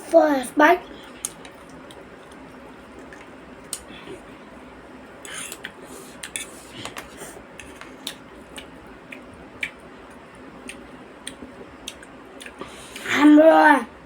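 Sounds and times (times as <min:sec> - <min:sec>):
soft chewing: 0:00.9 - 0:04.4, 0:05.2 - 0:13.1.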